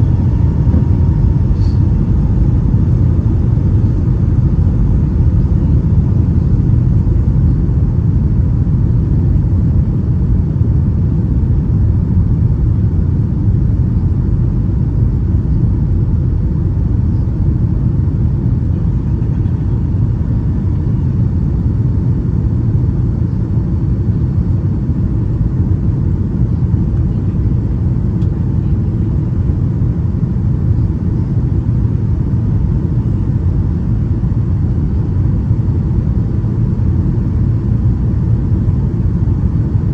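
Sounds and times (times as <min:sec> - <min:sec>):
airplane engines rumbling in cabin: 0:00.0 - 0:39.9.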